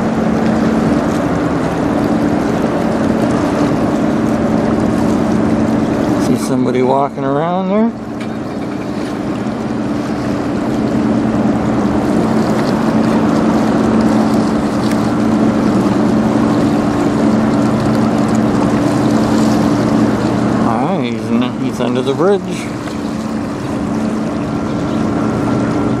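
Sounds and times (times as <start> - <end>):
ship engines humming: 0.0 - 26.0.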